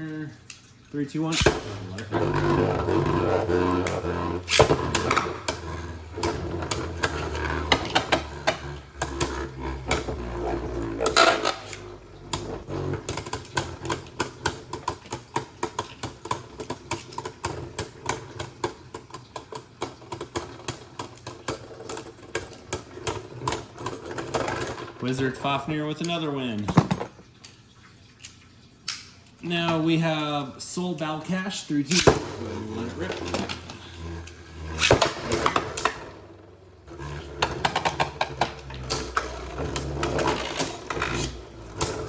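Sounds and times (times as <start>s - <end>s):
spinning tops humming: 1.1s - 26.5s, 30.0s - 42.0s
spinning tops clacking together: 1.3s - 25.6s, 31.9s - 42.0s.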